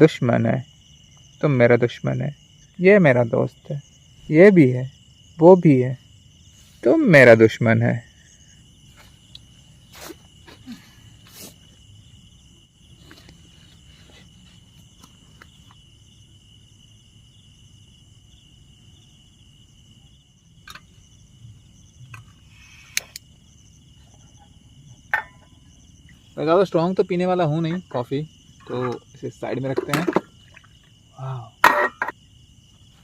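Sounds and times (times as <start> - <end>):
crickets and insects chirring: 0.0 - 33.0.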